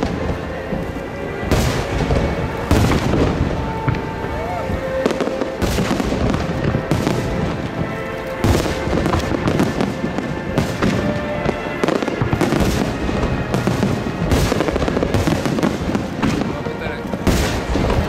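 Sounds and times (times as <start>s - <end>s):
fireworks bursting and crackling: 0.0s - 18.0s
music: 0.0s - 18.0s
sharp firework reports: 0.0s - 18.0s.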